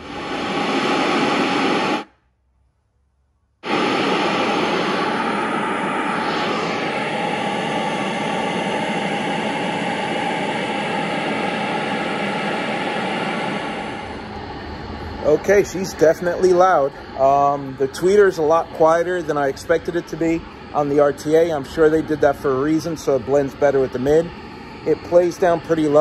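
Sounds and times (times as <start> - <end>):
speaker playing pink noise: 0.0 - 2.1, 3.6 - 26.0.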